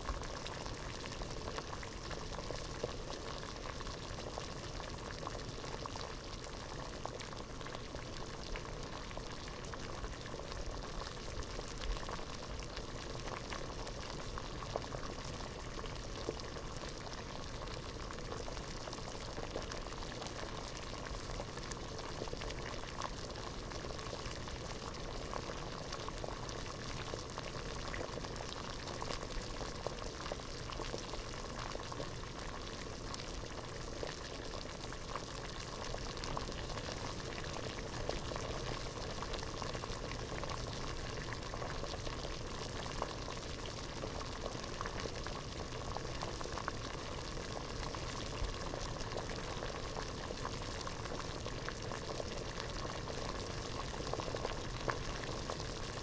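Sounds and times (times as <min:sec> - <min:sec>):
water boiling in a pot: 0:00.0 - 0:56.0.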